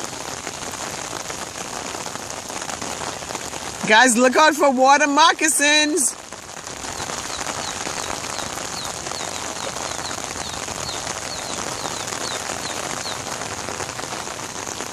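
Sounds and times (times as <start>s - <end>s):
rain falling on water: 0.0s - 14.9s.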